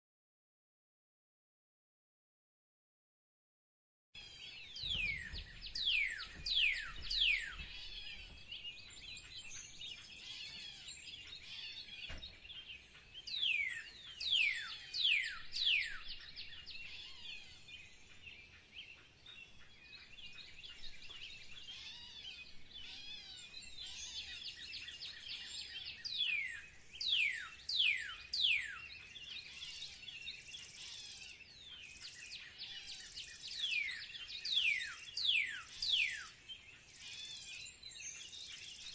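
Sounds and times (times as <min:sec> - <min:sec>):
small birds twittering: 0:04.2 - 0:38.9.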